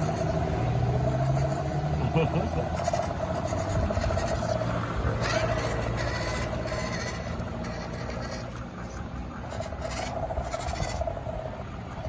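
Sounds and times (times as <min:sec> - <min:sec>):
simulated engine through small speaker: 0:00.0 - 0:12.0.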